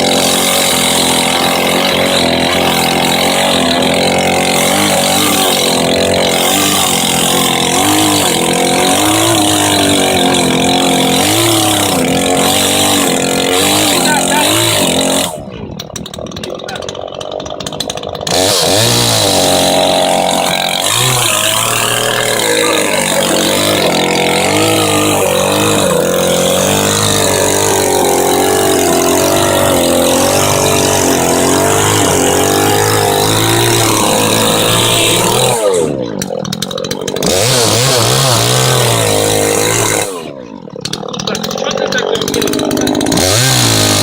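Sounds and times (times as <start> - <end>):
chainsaw cutting: 0.0 - 44.0.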